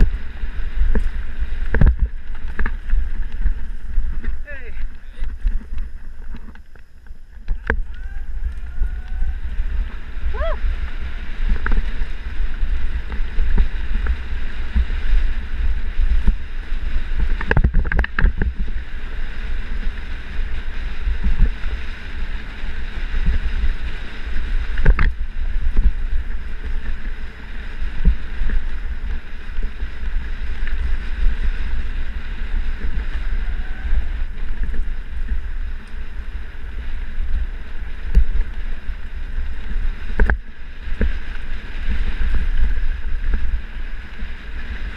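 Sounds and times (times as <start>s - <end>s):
bike rumbling and rattling on trail: 0.0s - 44.9s
wind buffeting microphone: 0.0s - 44.9s.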